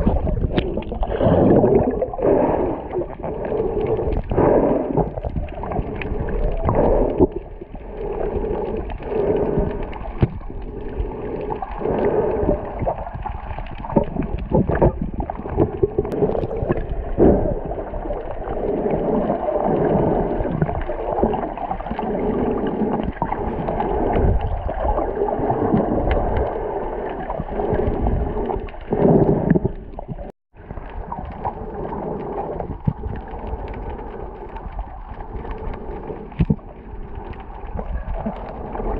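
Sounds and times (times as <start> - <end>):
gurgling bubbles: 0.0 - 38.9
muffled underwater water wash: 0.0 - 38.9.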